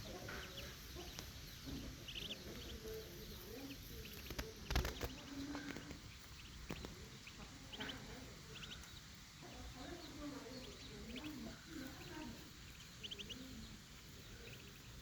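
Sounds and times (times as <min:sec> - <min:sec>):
ducklings peeping: 0:00.0 - 0:15.0
poultry calls: 0:00.0 - 0:15.0.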